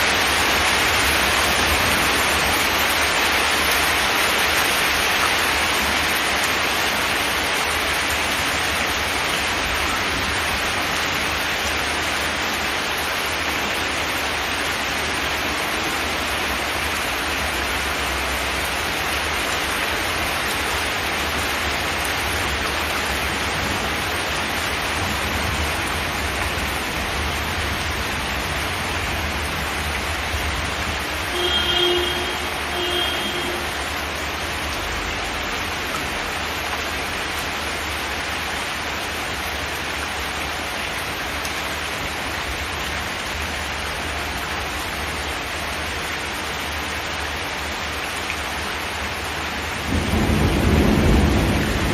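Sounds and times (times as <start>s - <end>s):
rain on a metal roof: 0.0s - 51.9s.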